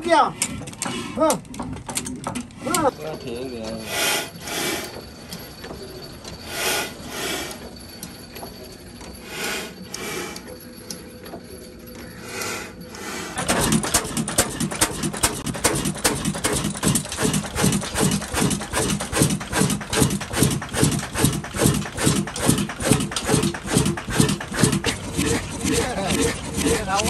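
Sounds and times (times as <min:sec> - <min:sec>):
stationary engine beating rhythmically: 0:01.8 - 0:27.0.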